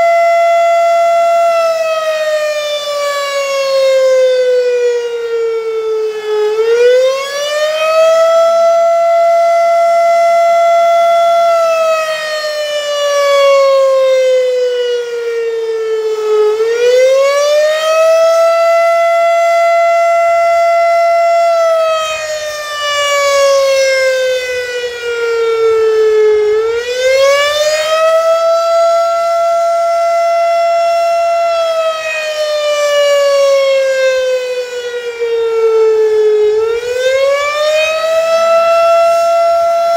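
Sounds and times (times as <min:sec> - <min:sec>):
rising and falling siren: 0:00.0 - 0:39.9.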